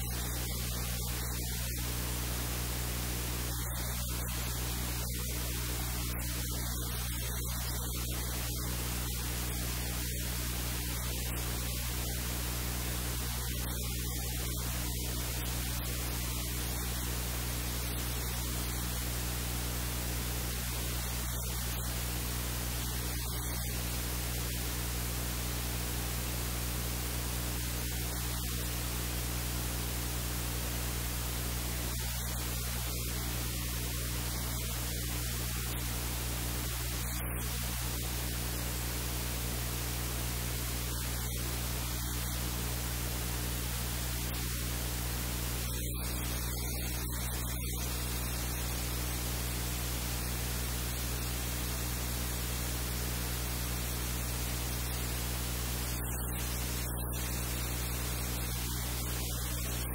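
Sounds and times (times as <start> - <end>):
low electrical hum: 0.0 - 59.9
static hiss: 0.0 - 59.9.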